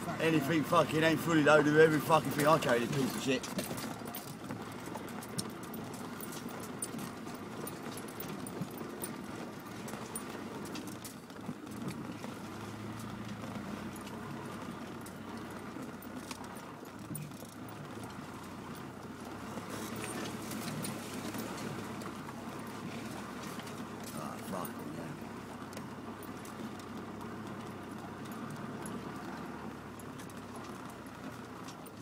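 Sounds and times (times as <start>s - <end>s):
car engine running: 0.0s - 32.0s
vehicle knocks and rattles: 0.0s - 32.0s.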